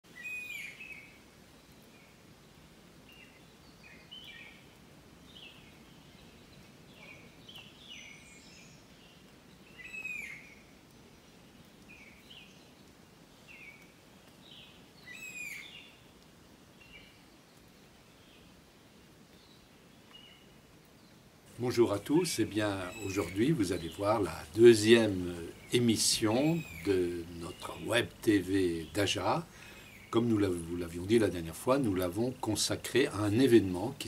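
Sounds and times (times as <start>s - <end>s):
faint background hiss: 0.0s - 34.0s
birds calling with whistled notes: 0.1s - 18.5s, 19.3s - 34.0s.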